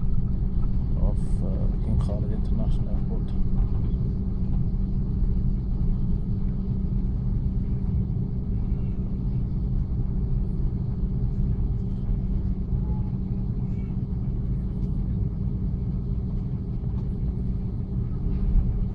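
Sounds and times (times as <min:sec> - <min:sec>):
airplane cabin rumble: 0:00.0 - 0:18.9.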